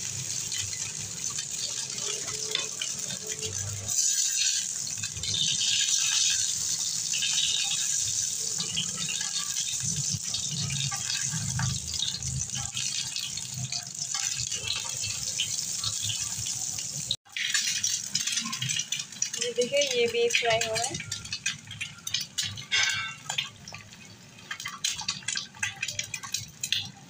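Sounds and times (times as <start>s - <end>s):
egg sizzling on a griddle: 0.0s - 27.0s.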